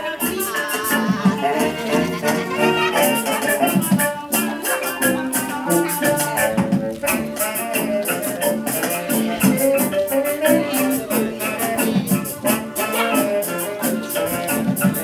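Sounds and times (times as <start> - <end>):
live band melody instruments: 0.0 - 15.0
shaker rhythm: 0.0 - 15.0.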